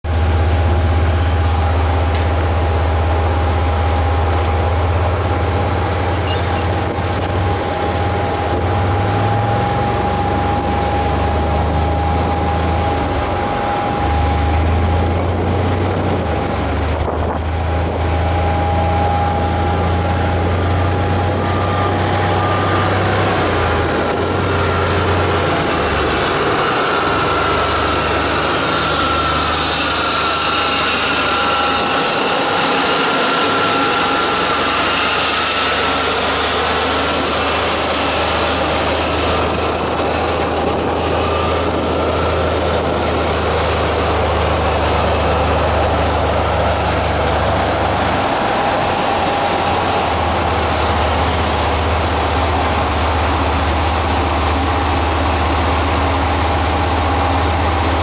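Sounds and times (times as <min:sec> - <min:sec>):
engine low rumble: 0:00.0 - 0:58.0
high-pitched whine: 0:00.1 - 0:58.0.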